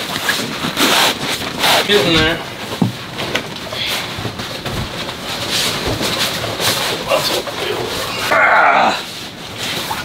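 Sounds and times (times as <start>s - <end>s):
fabric cover rustling and scraping: 0.0s - 10.0s.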